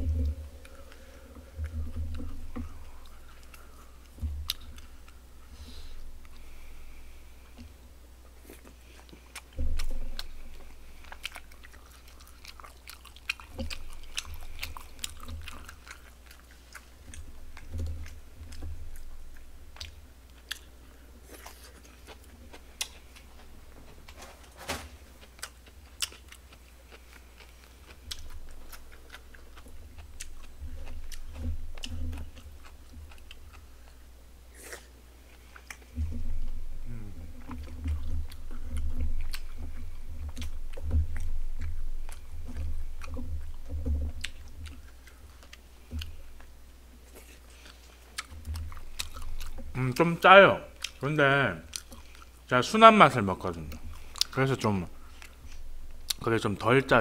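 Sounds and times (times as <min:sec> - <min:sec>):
chewing and biting: 0:00.0 - 0:05.2, 0:06.2 - 0:52.5, 0:53.5 - 0:56.3
food crunching: 0:00.0 - 0:57.0.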